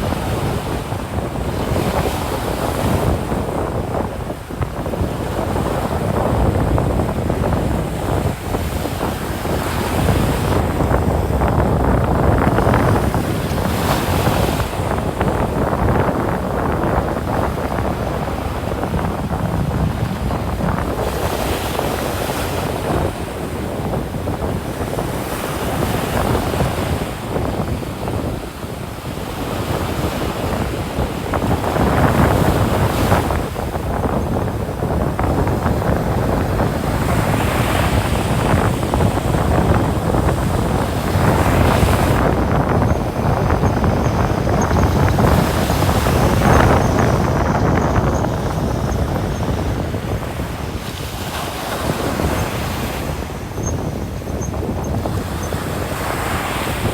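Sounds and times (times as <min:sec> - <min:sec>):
ocean surf breaking on beach: 0:00.0 - 0:56.9
wind buffeting microphone: 0:00.0 - 0:56.9.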